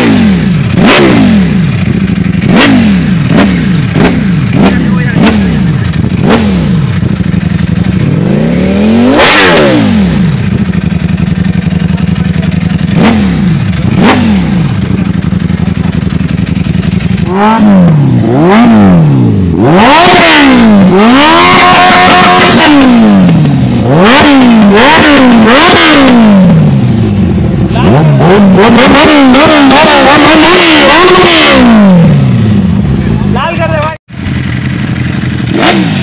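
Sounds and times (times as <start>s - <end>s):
motorcycle engine idling and revving: 0.0s - 36.0s
sport bike revving hard: 0.0s - 36.0s.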